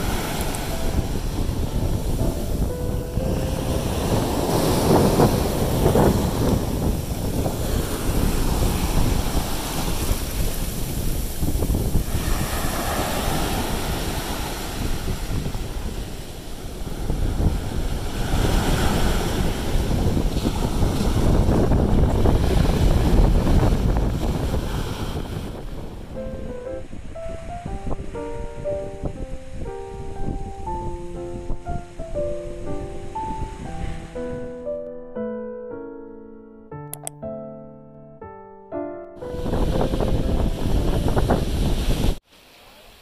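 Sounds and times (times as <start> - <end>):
wind buffeting microphone: 0.0 - 34.5, 39.2 - 42.2.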